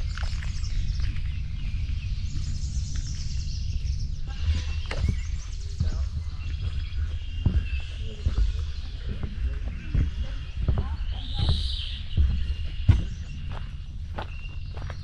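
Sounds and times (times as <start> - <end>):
low rumble: 0.0 - 15.0
songbirds chirping and trilling: 0.0 - 15.0.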